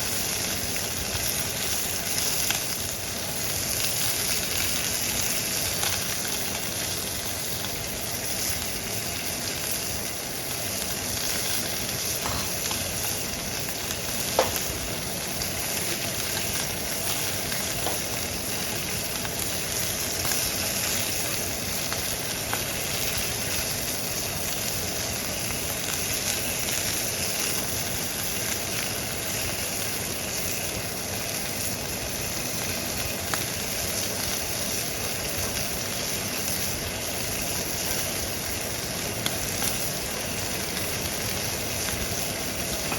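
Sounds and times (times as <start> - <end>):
steak sizzling in a pan: 0.0 - 42.9.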